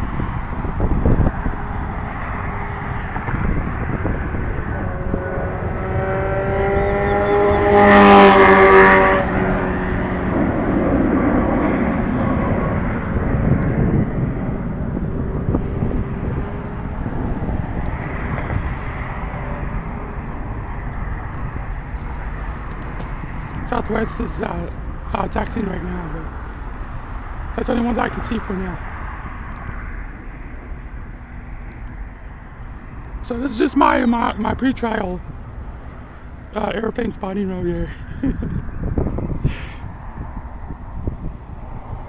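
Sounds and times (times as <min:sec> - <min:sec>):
steady traffic noise: 0:00.0 - 0:42.0
vehicle passing with whine: 0:00.0 - 0:42.0.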